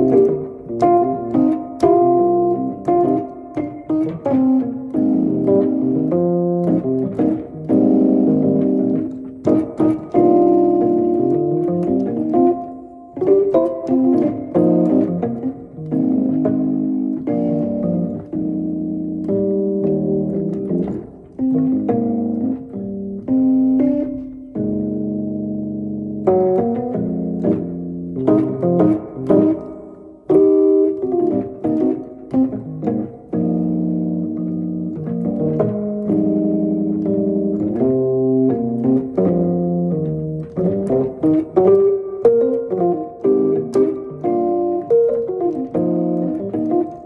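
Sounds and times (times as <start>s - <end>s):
electric piano playing chords: 0.0s - 47.0s.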